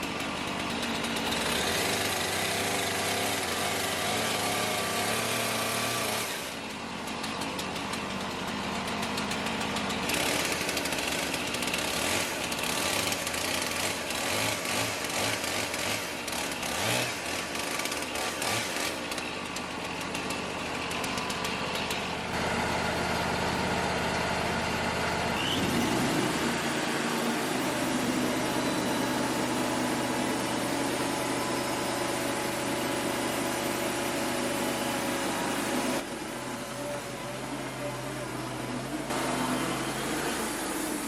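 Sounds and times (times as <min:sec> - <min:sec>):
band sawmill cutting log: 0:00.0 - 0:41.0.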